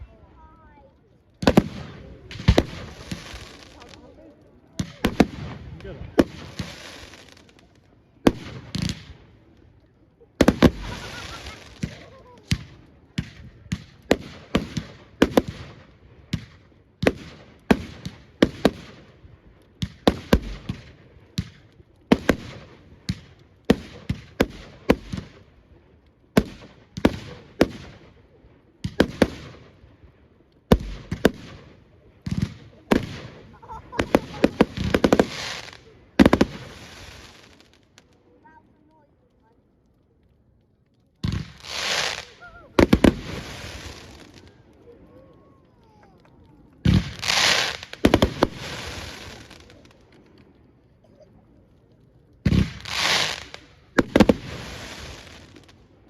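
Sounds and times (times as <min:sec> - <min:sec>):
fireworks bursting: 0:00.0 - 0:51.2, 0:51.8 - 0:56.0.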